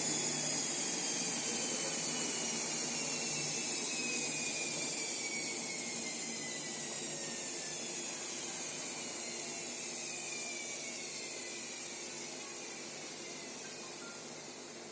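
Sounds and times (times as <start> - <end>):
washing machine hissing rush: 0.0 - 14.9.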